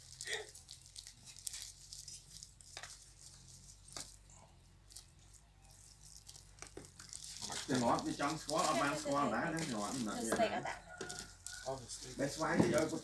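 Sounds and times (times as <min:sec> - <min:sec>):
plastic bag crinkling: 0:00.0 - 0:04.2, 0:04.8 - 0:13.0.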